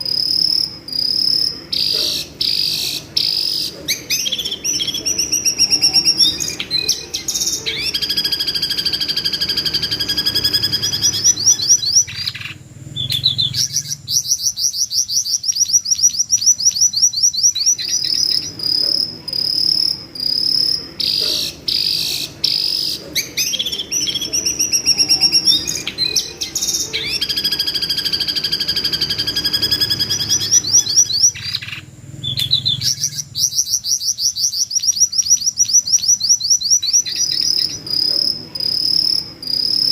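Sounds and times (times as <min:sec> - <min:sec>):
bird calling in high trills: 0:00.0 - 0:39.9.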